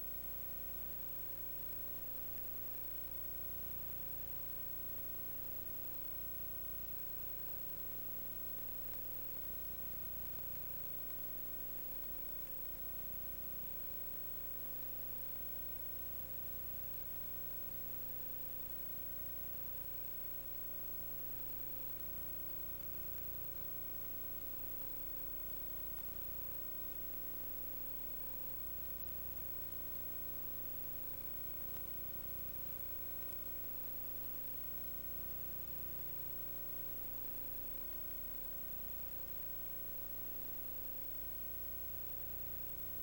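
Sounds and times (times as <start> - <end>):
steady hum of fixed tones: 0.0 - 43.0.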